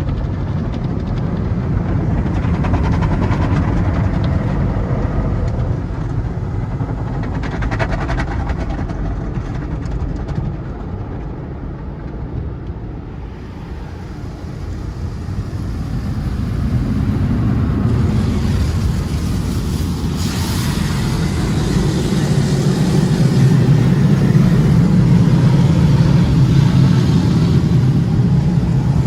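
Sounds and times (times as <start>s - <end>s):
car wash machinery rumbling: 0.0s - 29.0s.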